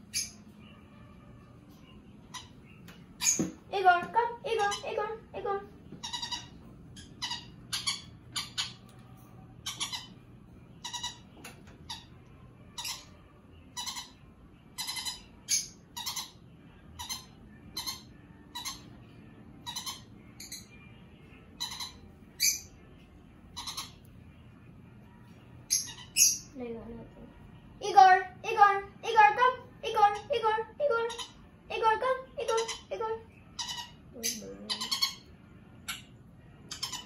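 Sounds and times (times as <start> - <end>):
parrot chick squawking: 0.0 - 8.9, 9.6 - 19.0, 19.6 - 20.8, 21.5 - 22.7, 23.5 - 24.1, 25.6 - 26.6, 27.9 - 36.1, 36.7 - 37.0.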